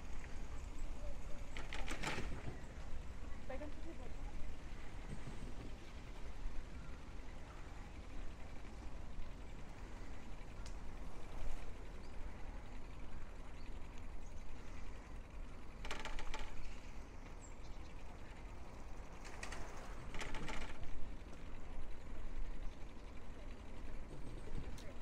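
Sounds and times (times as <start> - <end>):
bicycle ride rumble: 0.0 - 25.0.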